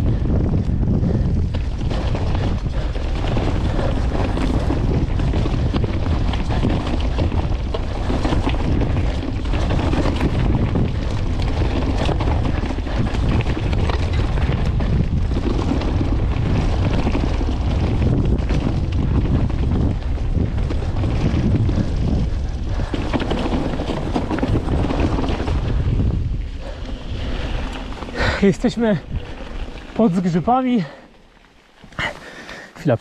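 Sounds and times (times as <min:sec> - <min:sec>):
wind buffeting microphone: 0:00.0 - 0:32.4
bike tyres rumbling: 0:00.0 - 0:33.0.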